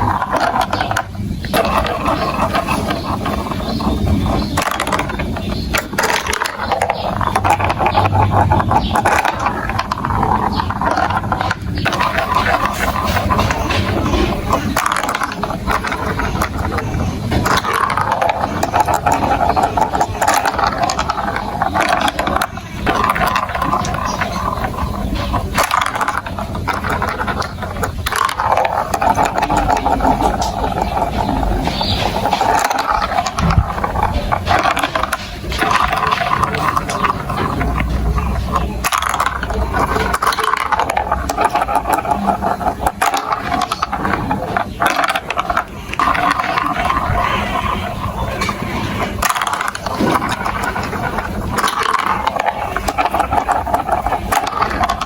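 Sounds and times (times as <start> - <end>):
marbles clattering on plastic track: 0.0 - 55.0
steady rolling hum: 0.0 - 55.0.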